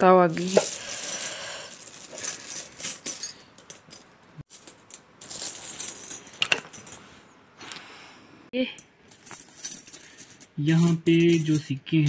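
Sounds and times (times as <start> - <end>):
metal coins clinking: 0.2 - 7.1, 8.8 - 12.0.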